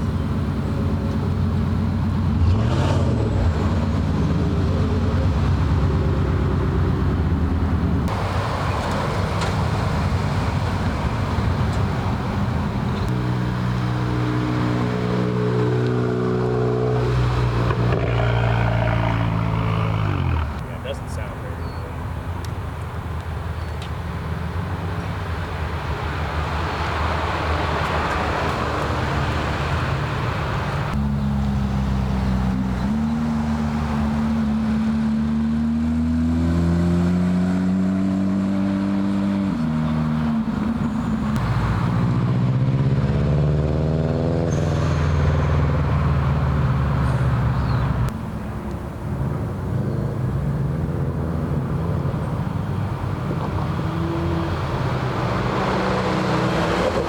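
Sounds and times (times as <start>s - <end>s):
car engine accelerating: 0.0s - 21.2s, 26.6s - 57.0s.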